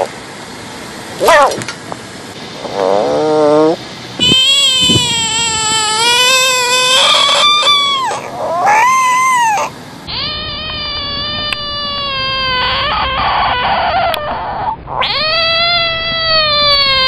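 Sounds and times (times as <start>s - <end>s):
bullfrogs screaming: 1.2s - 1.6s, 2.6s - 17.0s.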